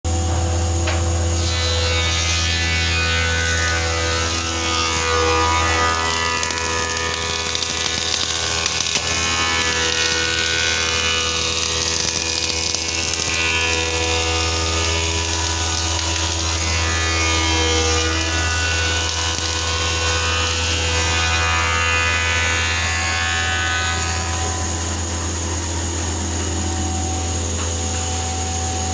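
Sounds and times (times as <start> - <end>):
power tool motor drone: 0.1 - 28.9.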